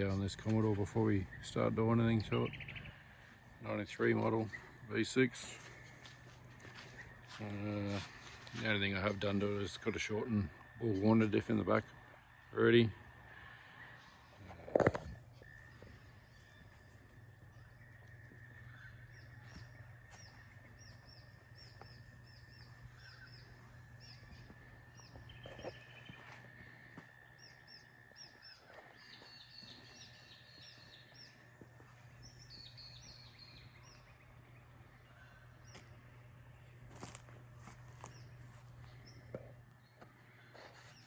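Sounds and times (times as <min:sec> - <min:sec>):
faint birds chirping: 0:00.0 - 0:41.0
low steady hum: 0:00.0 - 0:41.0.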